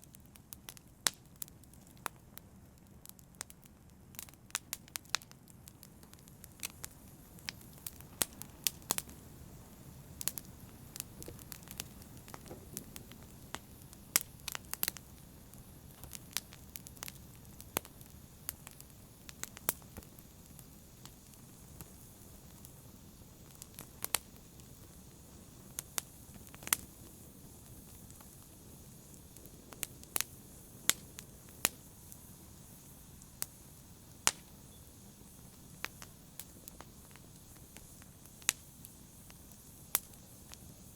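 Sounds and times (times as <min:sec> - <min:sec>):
wood crackling and popping: 0:00.0 - 0:40.9
low rush of flame: 0:00.2 - 0:40.9.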